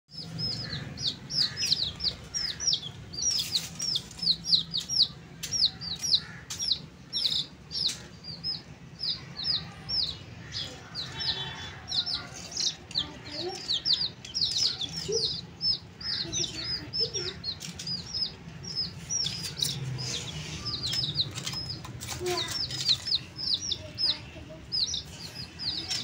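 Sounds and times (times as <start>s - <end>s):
baby chicks peeping: 0.1s - 26.0s.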